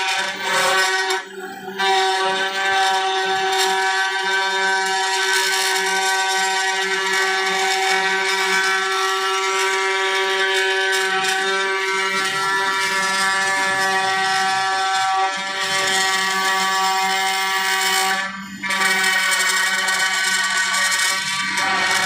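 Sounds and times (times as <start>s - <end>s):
bit cutting wood: 0.0s - 22.0s
router spindle whine: 0.0s - 22.0s.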